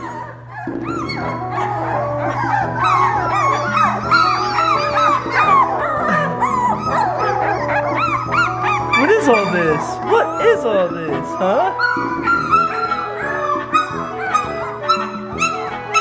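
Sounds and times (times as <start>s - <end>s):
background music: 0.0s - 16.0s
puppies squeaking and whimpering: 0.0s - 16.0s.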